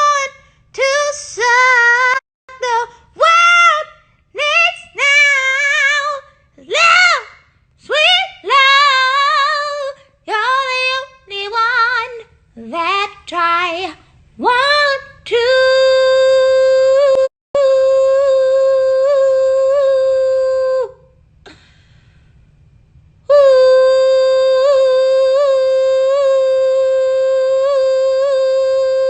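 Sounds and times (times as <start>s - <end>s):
woman singing a cappella: 0.0s - 21.2s, 23.2s - 29.0s.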